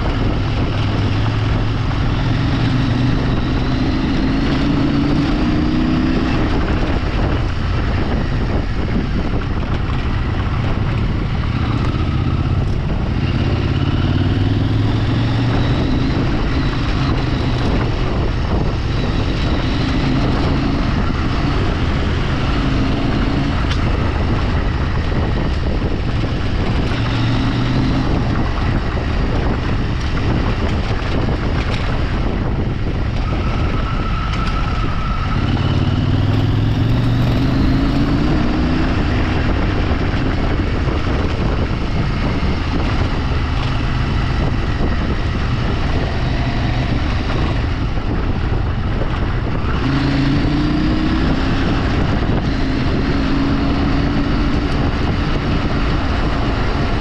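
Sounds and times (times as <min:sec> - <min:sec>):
vehicle engine accelerating: 0:00.0 - 0:57.0.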